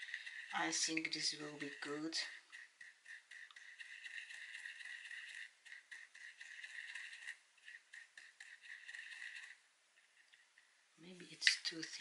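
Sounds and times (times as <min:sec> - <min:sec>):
paintbrush rattling in container: 0:00.0 - 0:10.4.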